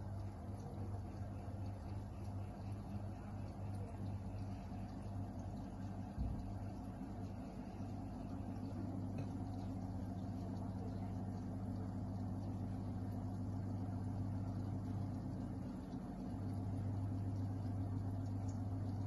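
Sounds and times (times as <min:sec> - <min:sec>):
aquarium pump electric hum: 0:00.0 - 0:19.0.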